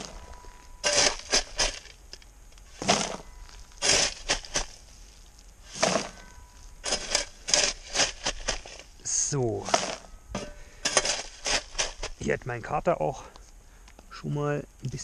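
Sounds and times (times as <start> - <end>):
spade digging into charcoal: 0.0 - 12.2.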